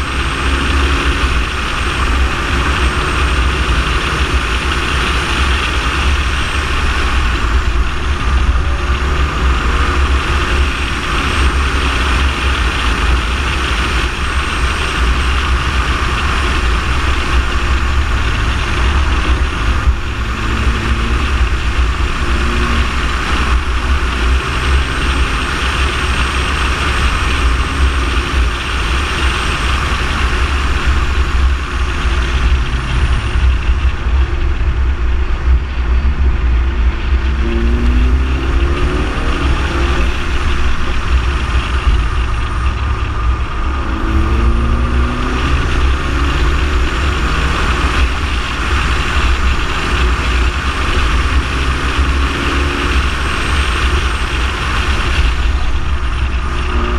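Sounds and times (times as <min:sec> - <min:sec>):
car engine accelerating: 0:00.0 - 0:56.9
tyres on road: 0:00.0 - 0:56.9
wind rumble: 0:00.0 - 0:56.9.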